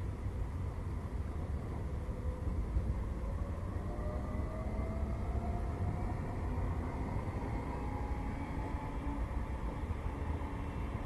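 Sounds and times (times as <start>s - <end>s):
tram motor whine: 0.0s - 11.0s.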